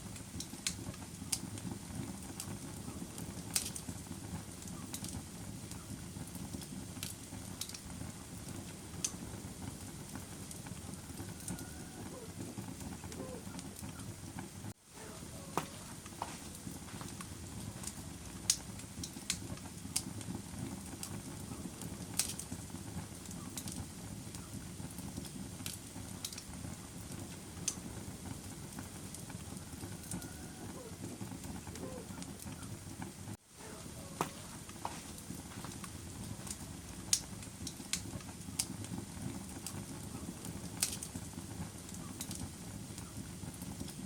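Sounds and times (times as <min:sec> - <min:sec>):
fire crackling and popping: 0:00.0 - 0:44.0
fire rumbling: 0:00.0 - 0:44.0.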